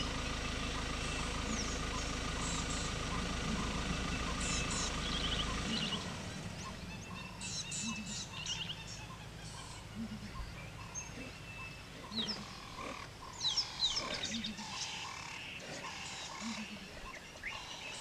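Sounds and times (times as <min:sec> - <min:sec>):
birds chirping and trilling: 0:00.0 - 0:18.0
vehicle engine idling: 0:00.0 - 0:18.0.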